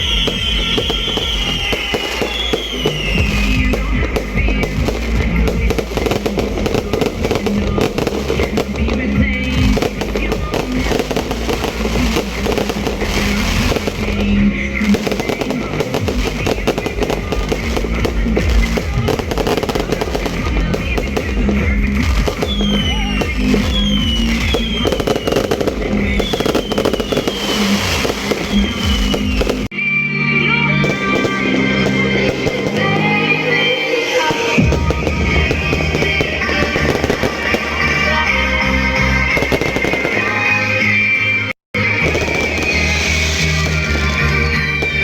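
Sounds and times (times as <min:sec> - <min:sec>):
fireworks bursting and crackling: 0:00.0 - 0:29.8, 0:30.5 - 0:45.0
music playing: 0:00.0 - 0:45.0.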